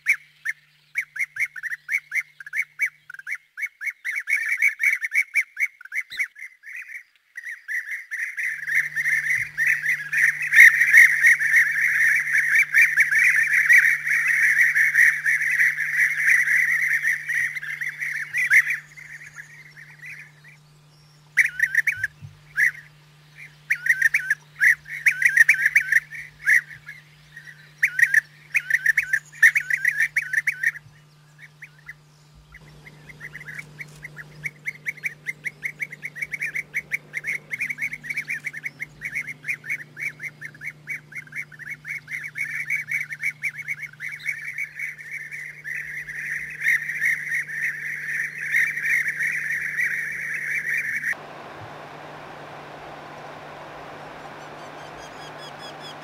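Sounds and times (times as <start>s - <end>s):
bee-eaters trilled calls: 0.0s - 56.0s.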